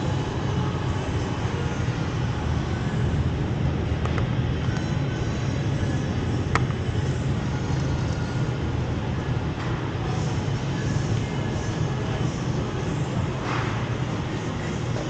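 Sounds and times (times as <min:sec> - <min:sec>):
supermarket background rumble: 0:00.0 - 0:15.0.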